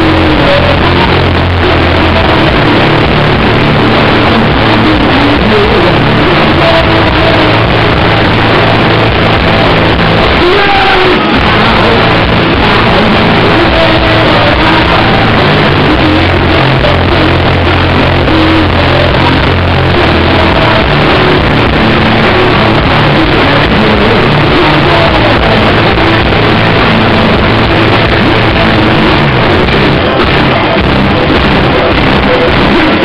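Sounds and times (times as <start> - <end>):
distorted electric guitars: 0.0 - 33.0
live rock band: 0.0 - 33.0.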